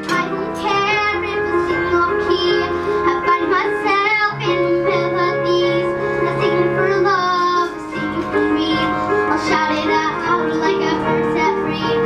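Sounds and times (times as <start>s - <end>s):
girl singing pop ballad: 0.0s - 12.0s
instrumental accompaniment: 0.0s - 12.0s.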